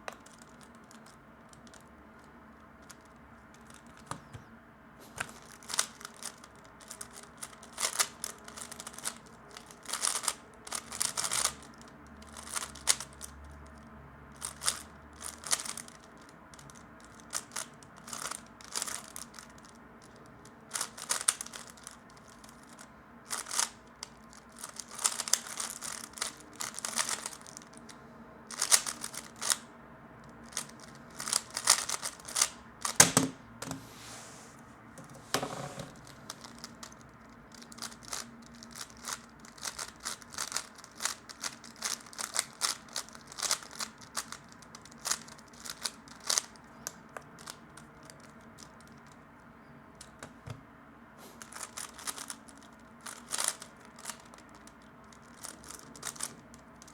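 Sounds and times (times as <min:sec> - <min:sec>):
plastic puzzle cube clicking: 0:00.1 - 0:01.9, 0:05.2 - 0:13.8, 0:14.4 - 0:27.9, 0:28.5 - 0:29.6, 0:30.3 - 0:33.2, 0:35.9 - 0:49.2, 0:51.4 - 0:56.9.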